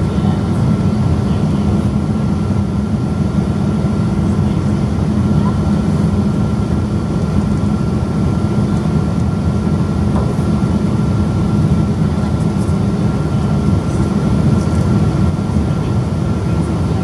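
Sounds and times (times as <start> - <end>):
aircraft engine and airflow roar: 0.0 - 17.0
thin steady whine: 0.0 - 17.0.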